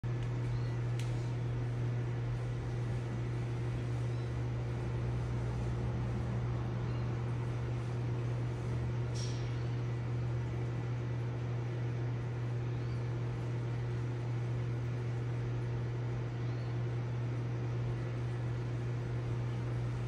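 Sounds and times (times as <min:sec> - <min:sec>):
aquarium pump hum: 0:00.0 - 0:20.0.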